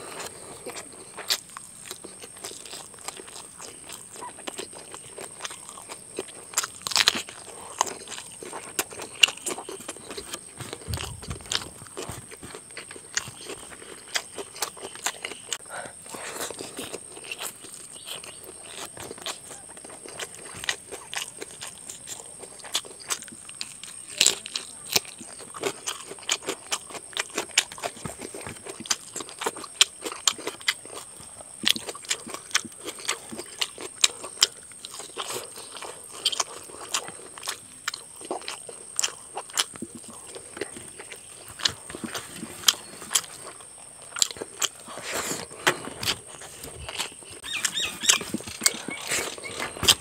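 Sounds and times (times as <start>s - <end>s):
man chewing and lip smacking: 0.0s - 50.0s.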